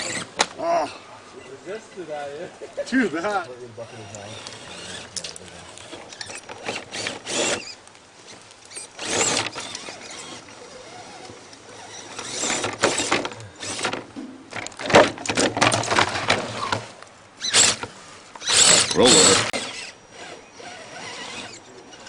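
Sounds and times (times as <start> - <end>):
electric motor and gears whirring: 0.0 - 0.6, 3.2 - 22.0
tires scraping over dirt and rock: 0.0 - 0.6, 1.4 - 22.0.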